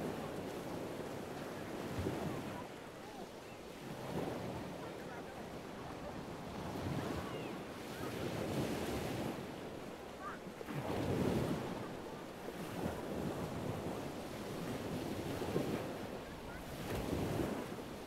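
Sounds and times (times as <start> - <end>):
waves washing on shore: 0.0 - 18.0.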